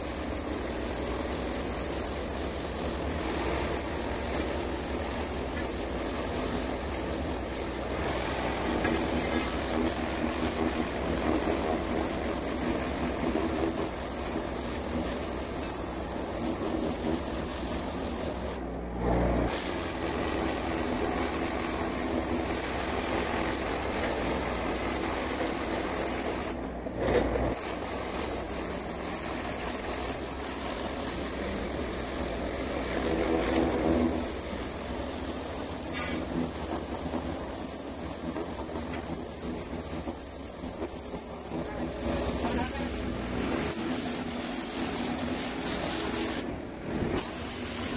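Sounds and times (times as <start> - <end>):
high-pressure water spray: 0.0 - 18.6, 19.5 - 26.6, 27.6 - 46.5, 47.2 - 47.9.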